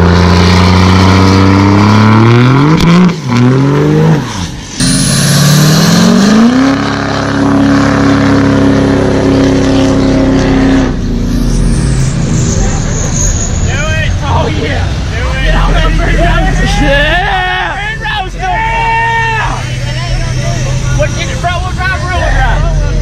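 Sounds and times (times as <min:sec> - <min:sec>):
diesel truck engines revving: 0:00.0 - 0:23.0.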